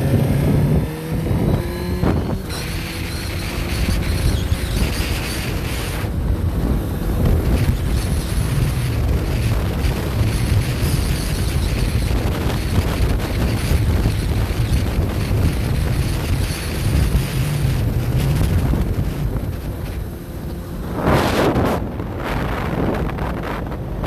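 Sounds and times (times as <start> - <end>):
motorcycle running: 0.0 - 24.0
wind rushing over microphone: 0.0 - 24.0.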